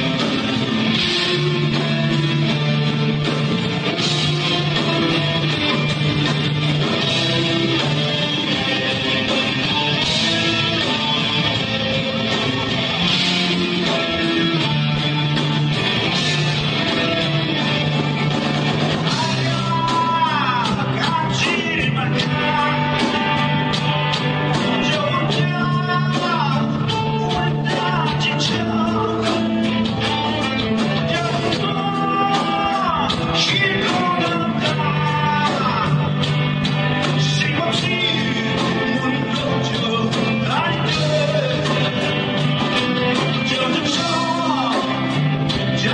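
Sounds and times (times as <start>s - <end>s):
heavy metal band playing live: 0.0s - 45.9s.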